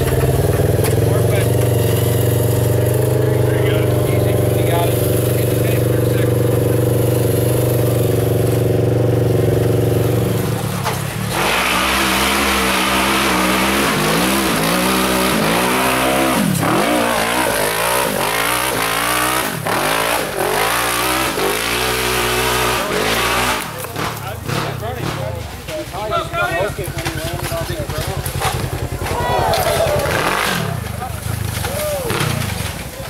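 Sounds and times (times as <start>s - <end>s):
engine revving up and down: 0.0s - 25.2s, 28.3s - 32.7s.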